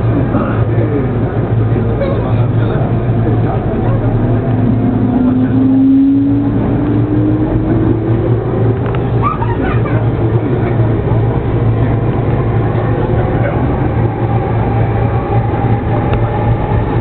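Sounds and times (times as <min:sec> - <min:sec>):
steady low hum: 0:00.0 - 0:17.0
train wheels rumbling on rails: 0:00.0 - 0:17.0.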